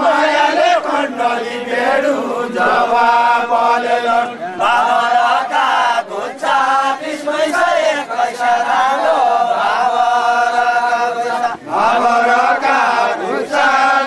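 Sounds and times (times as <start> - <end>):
men singing in unison: 0.0 - 14.0.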